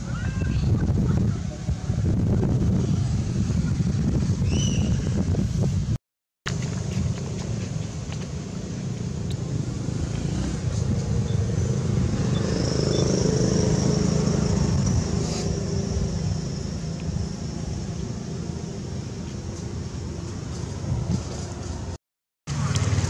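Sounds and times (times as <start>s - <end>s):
vehicle passing rumble: 0.0s - 23.0s.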